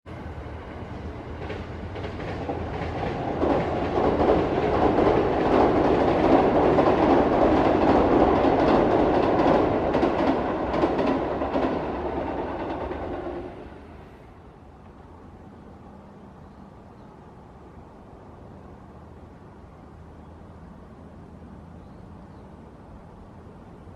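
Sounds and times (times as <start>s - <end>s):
freight train passing: 0.1s - 23.9s.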